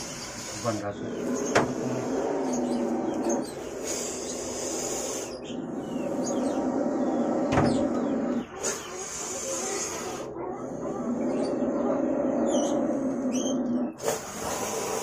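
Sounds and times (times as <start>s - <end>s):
snake hissing growls: 0.0s - 15.0s.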